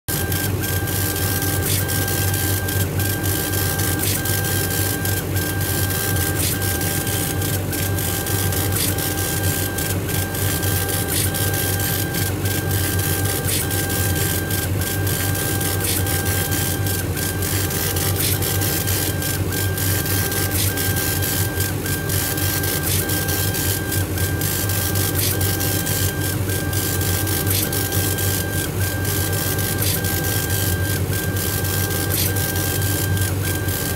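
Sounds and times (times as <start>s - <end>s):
laser engraver humming and whining: 0.1s - 33.9s.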